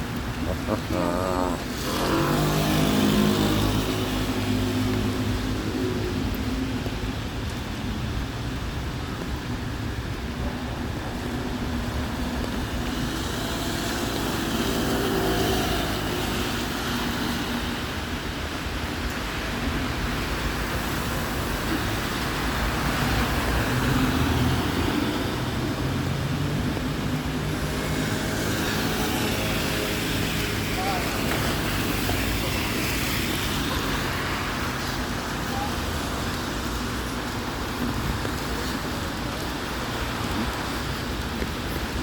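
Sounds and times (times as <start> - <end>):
cars passing on wet road: 0.0 - 42.0.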